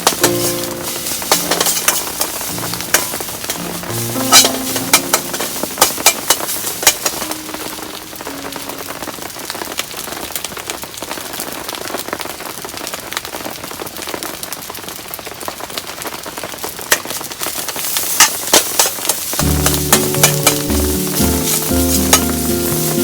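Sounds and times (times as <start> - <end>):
heavy rain falling: 0.0 - 23.0
sharp crackles: 0.0 - 23.0.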